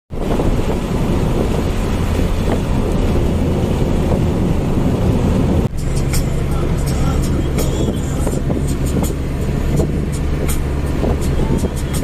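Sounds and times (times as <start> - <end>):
engine and tyre rumble: 0.1 - 12.0
wind noise inside car: 0.1 - 12.0.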